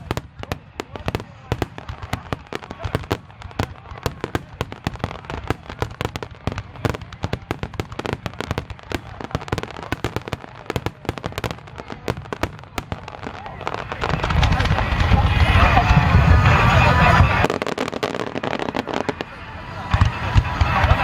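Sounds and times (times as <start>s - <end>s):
fireworks bursting: 0.0s - 21.0s.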